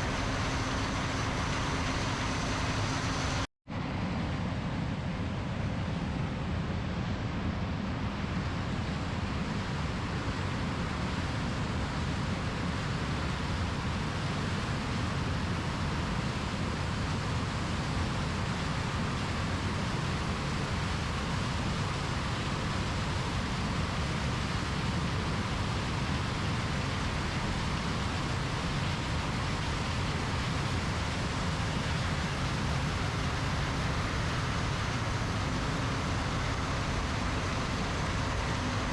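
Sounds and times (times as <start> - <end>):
combine harvester drone: 0.0 - 38.9.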